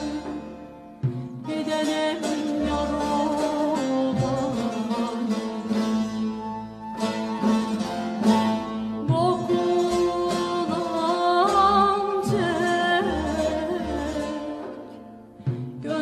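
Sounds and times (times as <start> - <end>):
plucked string accompaniment: 0.0 - 16.0.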